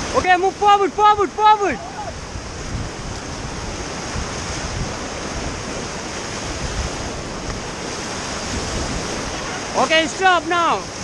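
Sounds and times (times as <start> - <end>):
white water rushing: 0.0 - 11.0
wind buffeting microphone: 0.0 - 11.0.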